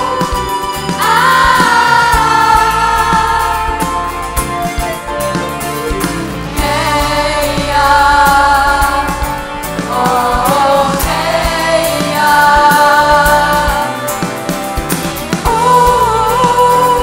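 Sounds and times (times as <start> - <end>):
gospel choir singing: 0.0 - 5.3, 6.2 - 17.0
instrumental accompaniment with beat: 0.0 - 17.0.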